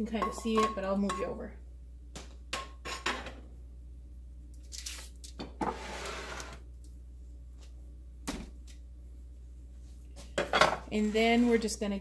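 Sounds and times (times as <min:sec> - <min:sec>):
steady low hum: 0:00.0 - 0:05.6, 0:06.4 - 0:12.0.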